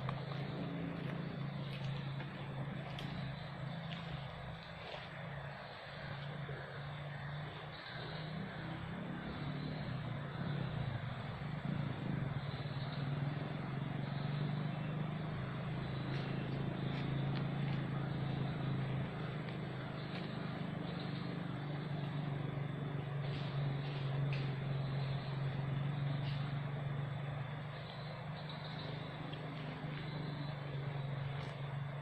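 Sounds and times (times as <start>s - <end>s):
low engine-like hum: 0.0s - 32.0s.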